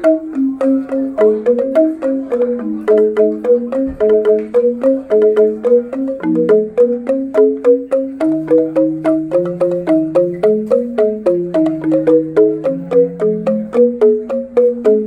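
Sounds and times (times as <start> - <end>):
bamboo xylophones playing: 0.0 - 15.0.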